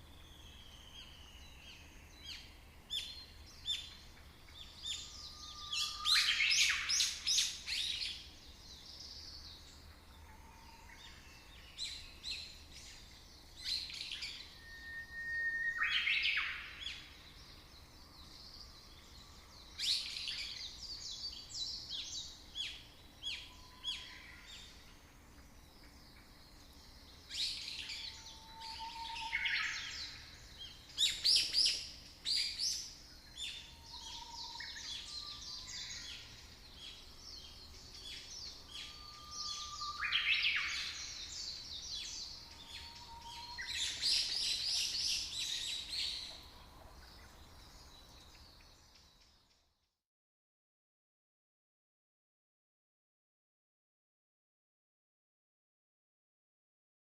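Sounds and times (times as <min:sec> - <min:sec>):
faint background hiss: 0:00.0 - 0:49.8
birds chirping and singing: 0:00.4 - 0:49.5.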